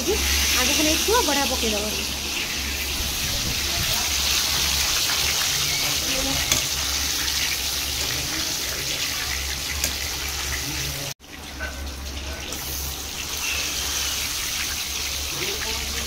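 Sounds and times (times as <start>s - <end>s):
deep-frying sizzle in oil: 0.0s - 16.0s.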